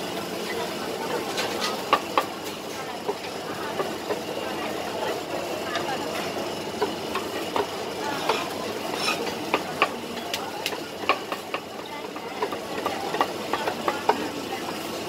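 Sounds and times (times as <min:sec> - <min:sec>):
utensils clinking on plates: 0:00.5 - 0:03.9, 0:04.6 - 0:14.3.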